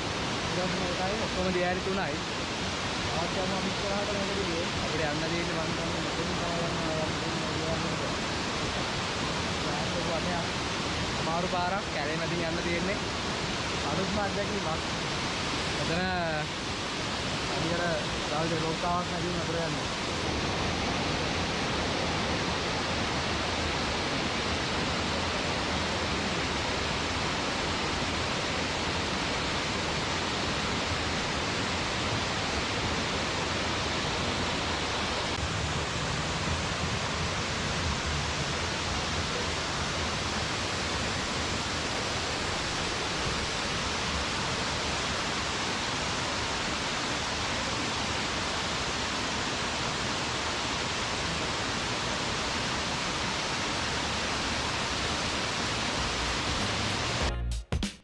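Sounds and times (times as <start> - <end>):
waterfall rushing: 0.0 - 57.3.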